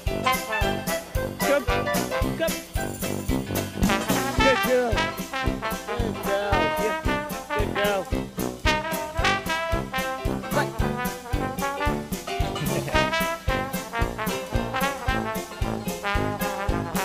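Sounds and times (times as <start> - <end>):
background music with beat: 0.0 - 17.0.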